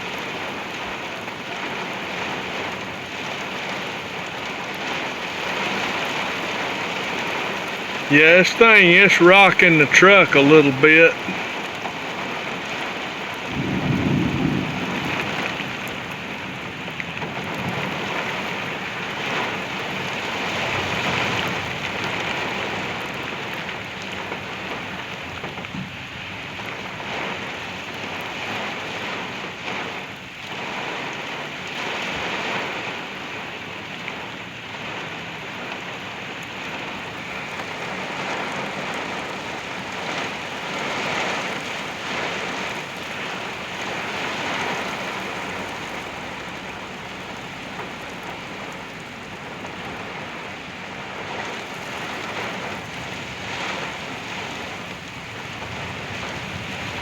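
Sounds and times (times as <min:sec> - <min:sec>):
heavy rain pelting a truck: 0:00.0 - 0:57.0.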